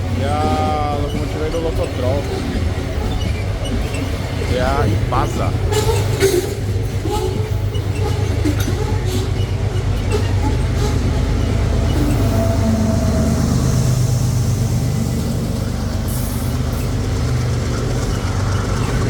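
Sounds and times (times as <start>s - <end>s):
diesel locomotive running: 0.0s - 19.0s
train rumbling on rails: 0.0s - 19.0s.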